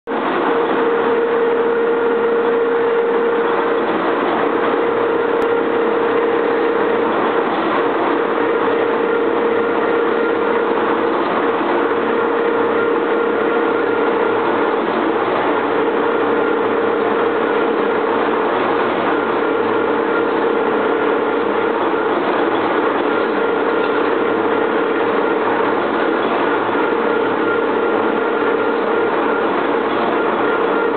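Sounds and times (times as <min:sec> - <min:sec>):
lathe machine drone with whine: 0:00.1 - 0:30.9.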